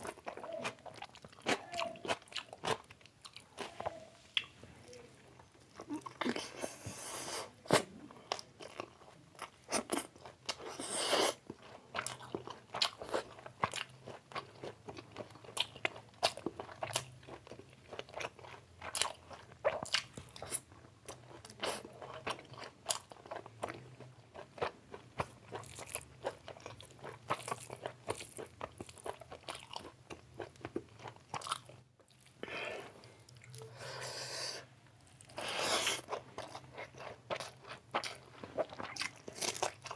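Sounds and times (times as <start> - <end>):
person chewing and biting food: 5.7 - 34.3, 35.0 - 39.9.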